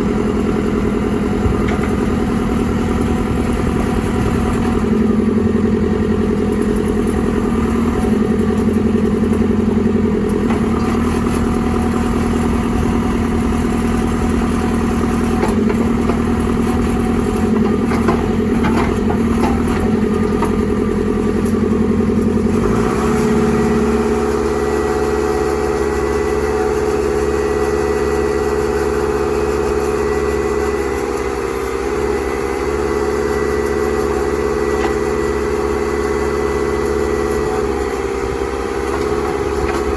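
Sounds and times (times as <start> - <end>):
diesel engine idling: 0.0 - 39.9
engine clatter: 0.0 - 39.9.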